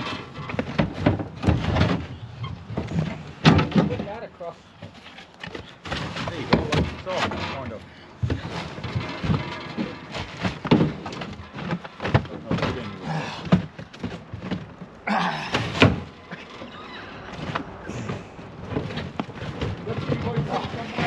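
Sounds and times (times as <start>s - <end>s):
seats thunking in metal hull: 0.0s - 5.0s, 5.6s - 21.0s
scraping rustle: 0.0s - 21.0s.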